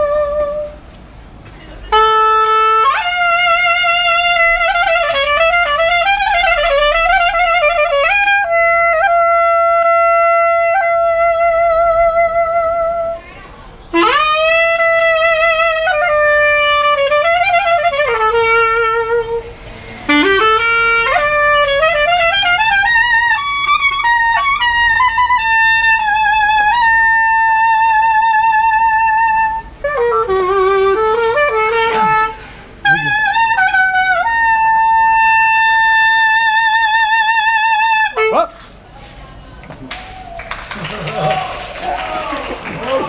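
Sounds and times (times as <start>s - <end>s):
solo clarinet melody: 0.0s - 1.0s, 1.8s - 13.3s, 13.9s - 39.5s.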